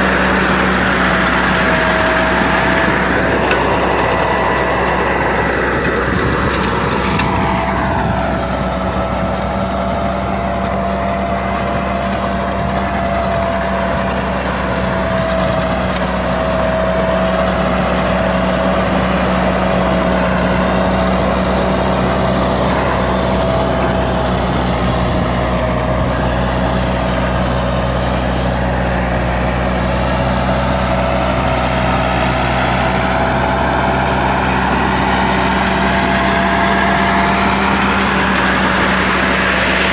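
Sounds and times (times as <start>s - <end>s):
constant whine: 0.0s - 39.9s
diesel tractor engine running: 0.0s - 39.9s.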